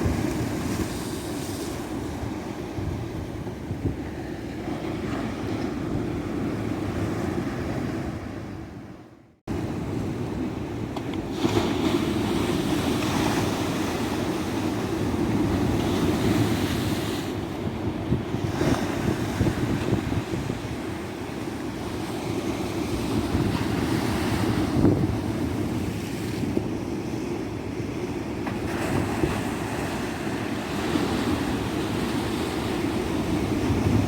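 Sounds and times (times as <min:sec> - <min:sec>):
wind buffeting microphone: 0:00.0 - 0:08.9, 0:09.5 - 0:26.9, 0:27.7 - 0:34.0
ocean waves breaking on beach: 0:00.0 - 0:34.0.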